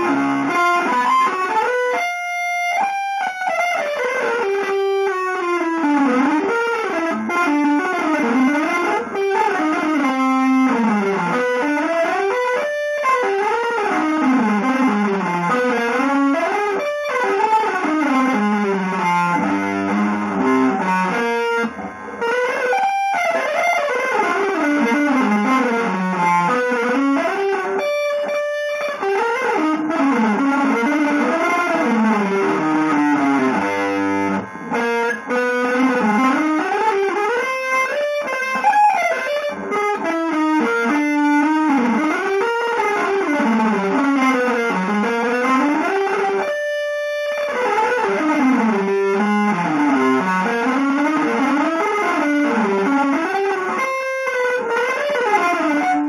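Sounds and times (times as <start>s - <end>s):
electric guitar runs: 0.0s - 56.0s.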